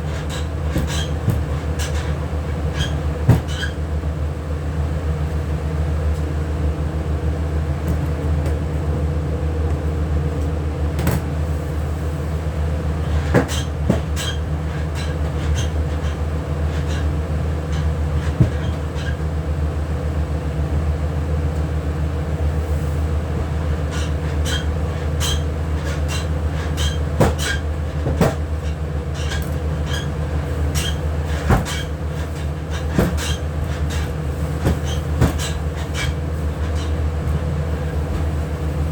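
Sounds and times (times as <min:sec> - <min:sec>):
kitchen machine hum: 0:00.0 - 0:38.9.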